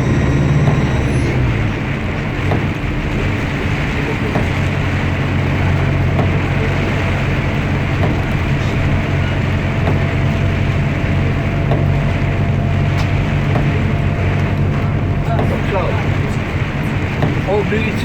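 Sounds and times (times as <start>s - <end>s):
bus diesel engine running: 0.0s - 18.0s
faint steady whine: 0.0s - 18.0s
road and rain hiss: 0.0s - 18.0s.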